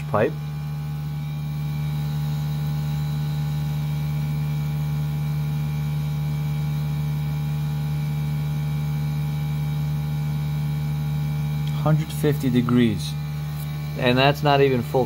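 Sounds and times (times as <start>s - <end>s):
heat pump compressor humming: 0.0s - 15.0s.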